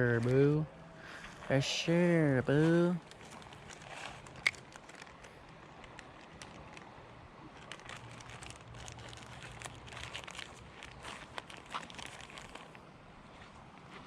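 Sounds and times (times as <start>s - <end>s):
faint crackling and rustling: 2.5s - 14.0s.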